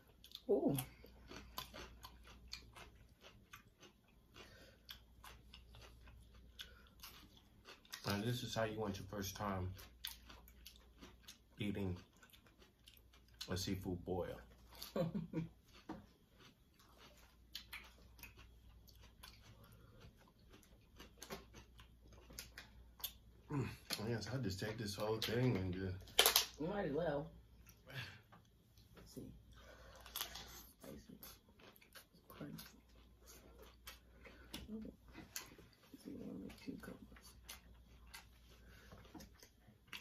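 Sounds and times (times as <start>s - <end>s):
person chewing: 0.0s - 26.6s, 27.4s - 40.0s.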